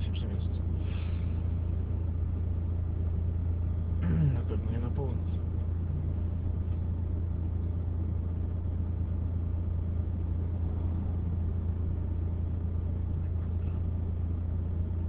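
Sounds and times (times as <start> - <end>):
car engine drone in cabin: 0.0 - 15.0
road noise: 0.0 - 15.0.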